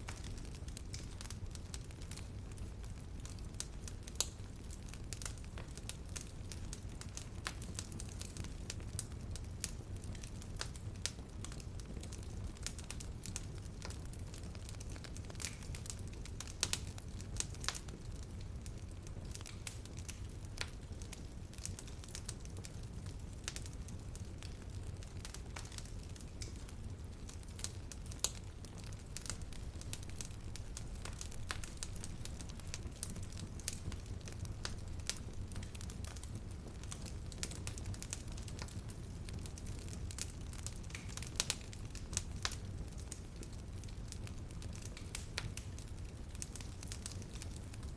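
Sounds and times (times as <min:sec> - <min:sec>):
fire crackling: 0:00.0 - 0:47.9.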